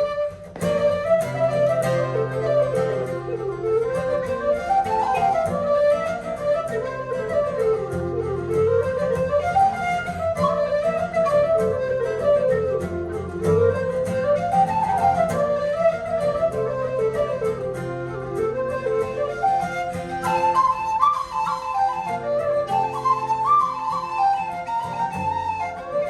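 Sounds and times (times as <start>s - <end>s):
flute melody: 0.0s - 26.0s
plucked strings: 0.0s - 26.0s.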